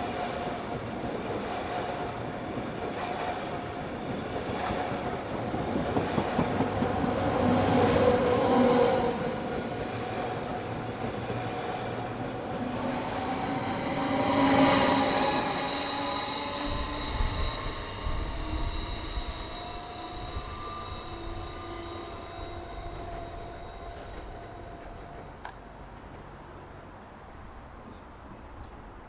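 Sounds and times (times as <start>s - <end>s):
train wheels squealing on rails: 0.0s - 27.1s
train rolling rumble: 0.0s - 29.0s.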